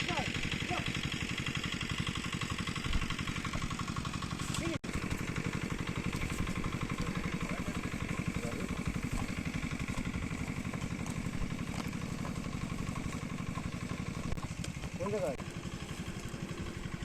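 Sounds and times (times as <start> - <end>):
engine chugging: 0.0 - 17.0.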